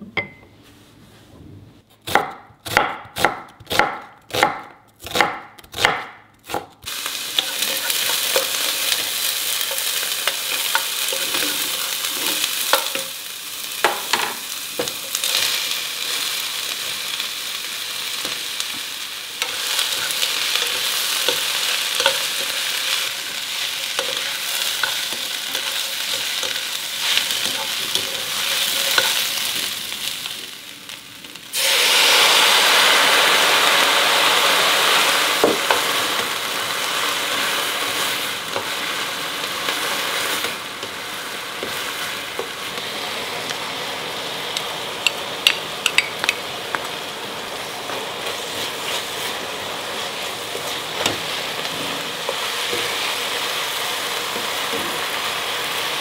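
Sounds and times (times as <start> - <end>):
food sizzling in a frying pan: 6.8 - 56.0.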